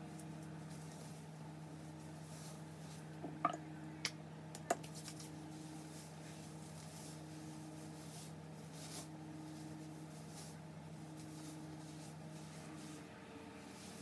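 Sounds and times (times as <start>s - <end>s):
braids rustling: 0.1s - 3.2s, 4.8s - 14.0s.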